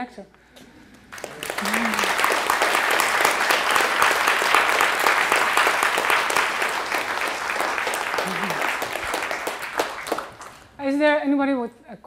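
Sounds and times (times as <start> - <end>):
audience applauding: 1.1 - 10.8.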